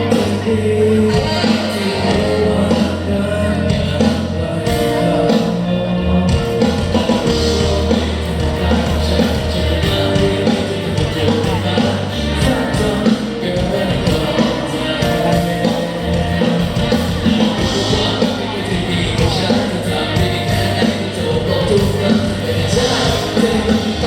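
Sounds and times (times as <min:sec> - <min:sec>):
live rock-pop band with singing: 0:00.0 - 0:24.0.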